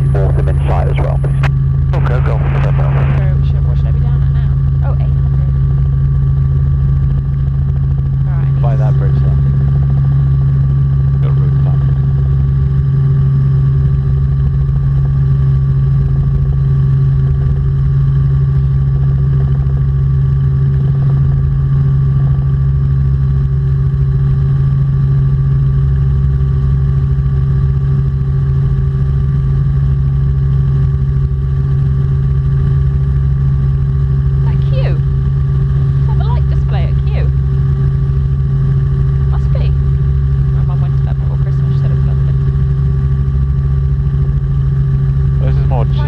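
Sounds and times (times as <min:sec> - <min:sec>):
helicopter engine and rotors droning: 0:00.0 - 0:46.0.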